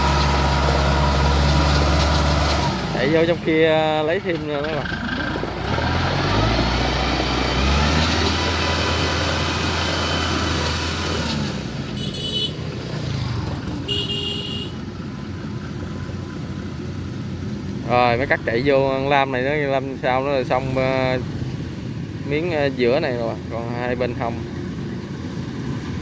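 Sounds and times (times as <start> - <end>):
combine harvester diesel engine: 0.0 - 26.0.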